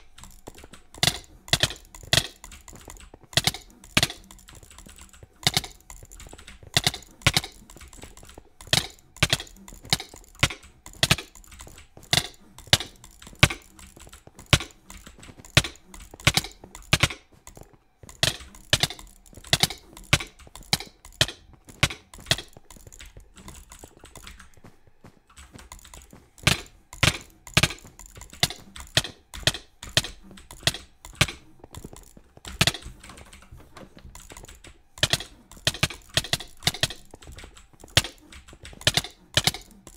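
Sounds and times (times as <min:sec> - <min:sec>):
sharp clicks: 0:00.0 - 0:39.9.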